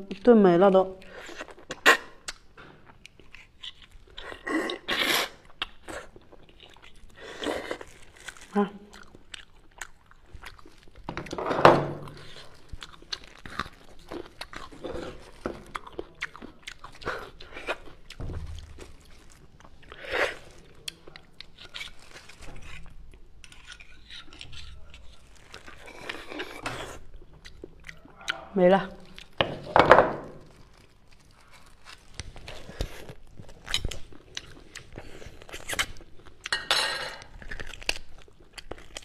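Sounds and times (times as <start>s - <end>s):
wet mouth chewing and smacking: 1.0s - 11.1s, 12.1s - 29.4s, 31.1s - 36.6s, 37.2s - 39.0s.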